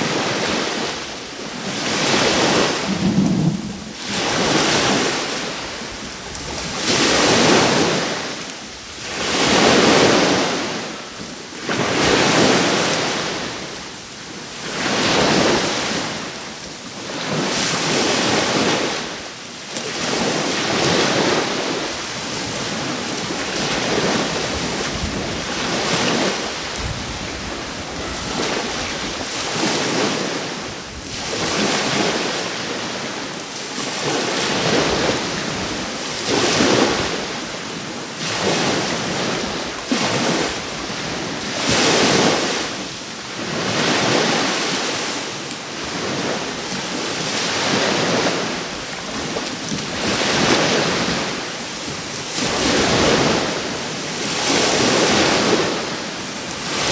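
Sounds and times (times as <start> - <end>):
sea waves breaking on shore: 0.0 - 56.9.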